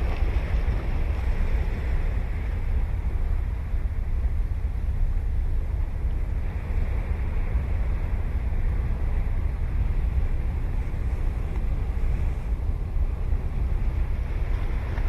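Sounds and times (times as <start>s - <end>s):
surf washing on sandy beach: 0.0s - 15.0s
wind buffeting microphone: 0.0s - 15.0s.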